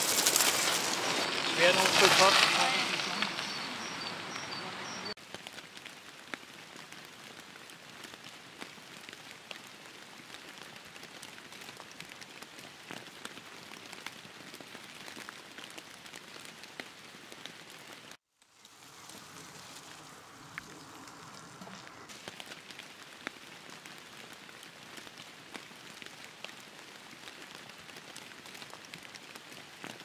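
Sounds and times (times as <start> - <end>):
light rain pattering: 0.0 - 30.0
sharp ticks of raindrops: 0.0 - 30.0.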